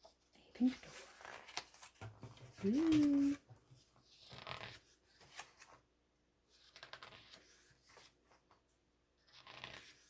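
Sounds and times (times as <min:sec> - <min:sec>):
pages turning and rustling: 0:00.0 - 0:05.9, 0:06.5 - 0:10.0.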